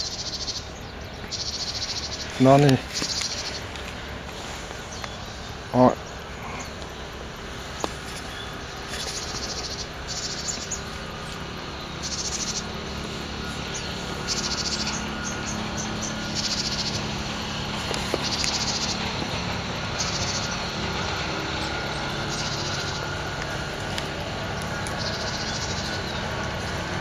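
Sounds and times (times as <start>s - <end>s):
small birds trilling: 0.0s - 27.0s.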